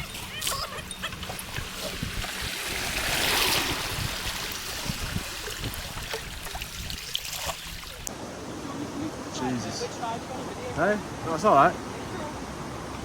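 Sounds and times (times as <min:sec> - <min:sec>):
river water rushing and splashing: 0:01.2 - 0:13.0.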